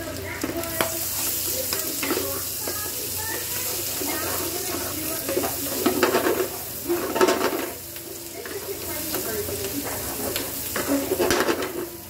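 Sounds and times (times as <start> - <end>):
pork sizzling in a frying pan: 0.0 - 12.0.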